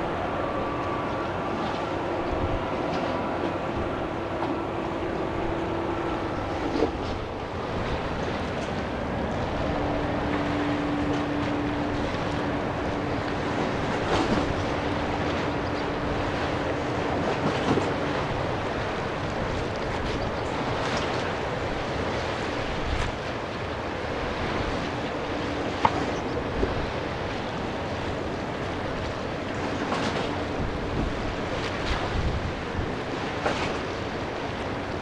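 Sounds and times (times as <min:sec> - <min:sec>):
distant jet engine rumble: 0:00.0 - 0:35.0
water noise: 0:00.0 - 0:35.0
wind: 0:00.0 - 0:35.0.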